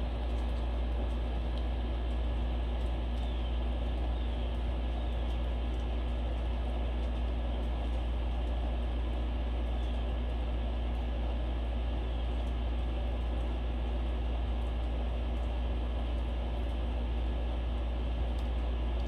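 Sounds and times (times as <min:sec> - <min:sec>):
faint steady hum: 0:00.0 - 0:19.0
room noise rumble and hiss: 0:00.0 - 0:19.0.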